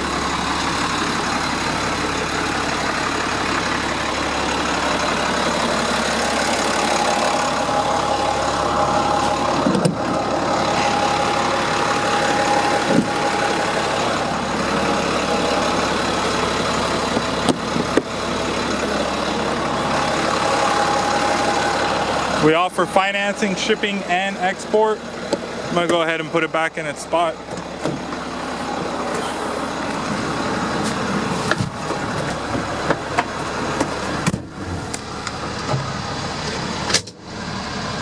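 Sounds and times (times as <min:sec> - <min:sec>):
steady whine: 0:00.0 - 0:37.2
diesel engine idling: 0:00.0 - 0:38.0.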